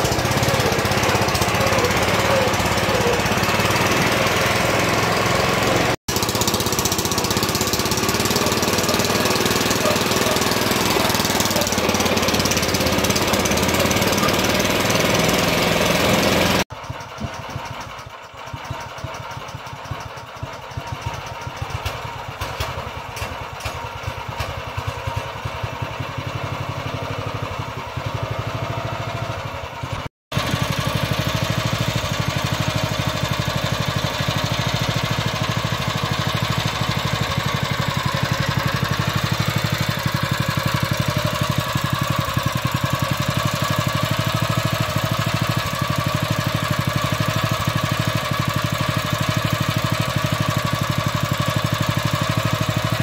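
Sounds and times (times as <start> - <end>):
small engine running steadily: 0.0 - 53.0.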